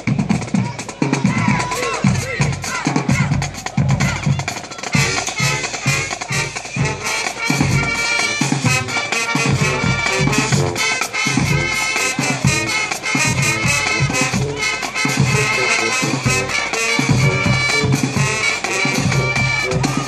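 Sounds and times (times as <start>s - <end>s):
band music with horns: 0.0s - 20.0s.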